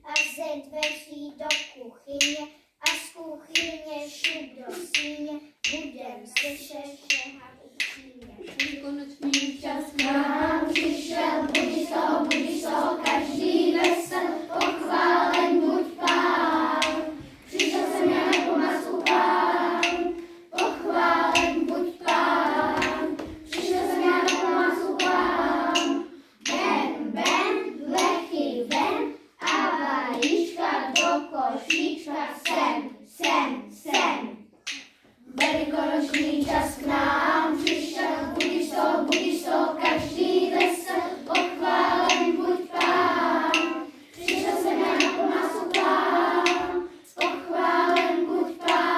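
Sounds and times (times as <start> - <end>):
children singing together: 0.0 - 48.9
hands clapping a steady beat: 0.1 - 48.9.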